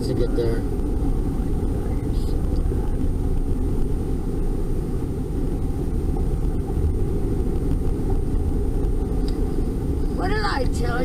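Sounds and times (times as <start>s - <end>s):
car engine: 0.0s - 11.0s
tyre road noise: 0.0s - 11.0s.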